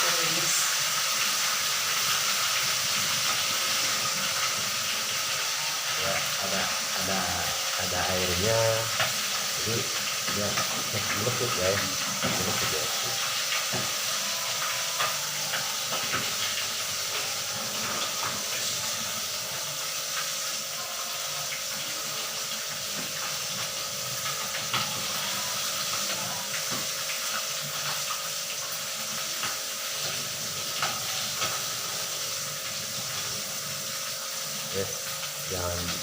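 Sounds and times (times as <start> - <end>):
fish sizzling in hot oil: 0.0 - 36.0
oil popping and crackling: 0.0 - 36.0.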